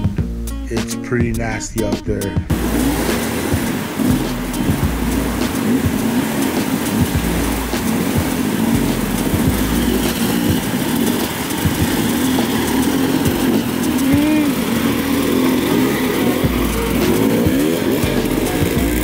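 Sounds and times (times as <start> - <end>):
dirt bike engines revving: 0.7 - 19.0
water splashing: 1.8 - 19.0.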